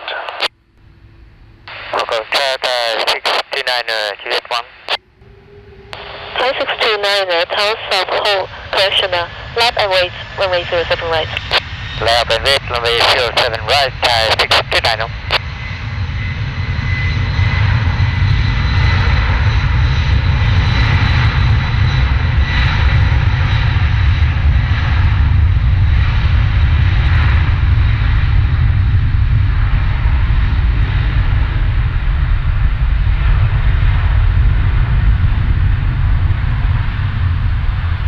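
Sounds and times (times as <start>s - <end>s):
jet engines deep rumble: 0.0s - 38.0s
thin high jet whine: 0.0s - 38.0s.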